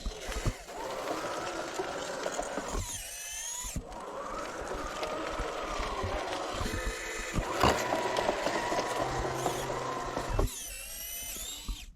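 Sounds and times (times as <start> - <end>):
electric motors whining: 0.0 - 11.9.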